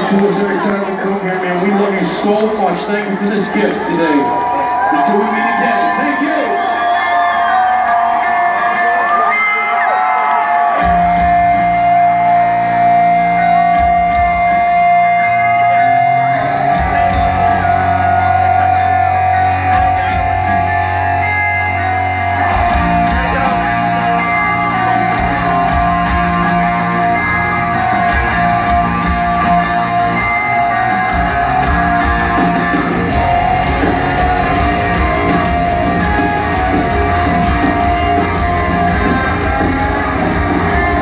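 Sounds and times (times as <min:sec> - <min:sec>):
hard rock band playing live: 0:04.8 - 0:41.0.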